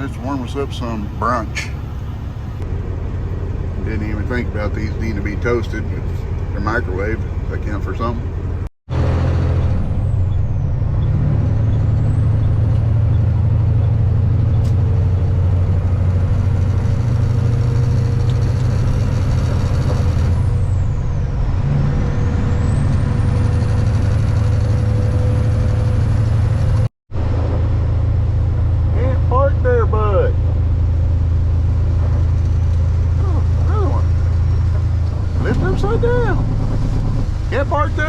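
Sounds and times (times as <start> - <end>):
diesel truck engine droning: 0.0 - 38.0.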